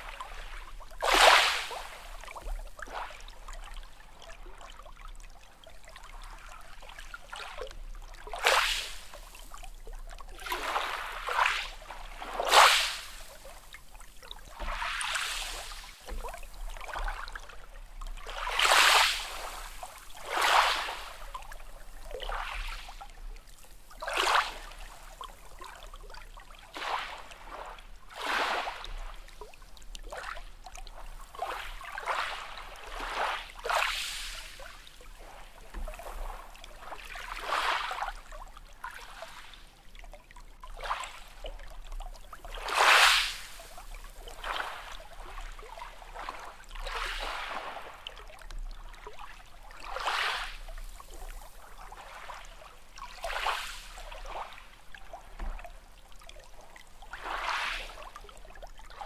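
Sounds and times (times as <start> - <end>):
small waves lapping and splashing: 0.0 - 59.0.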